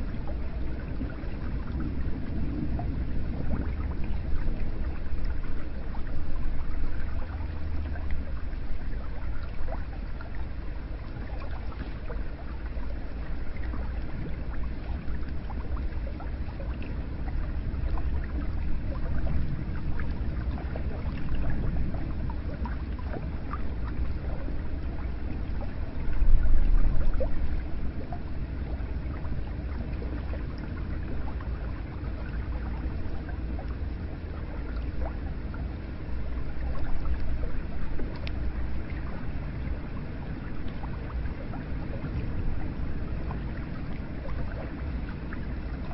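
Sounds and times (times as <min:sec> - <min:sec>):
small water drips: 0:00.0 - 0:45.9
water splashing and gurgling: 0:00.0 - 0:45.9.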